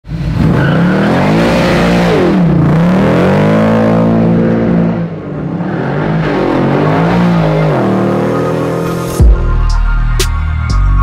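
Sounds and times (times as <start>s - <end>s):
car engine revving hard: 0.3s - 9.2s.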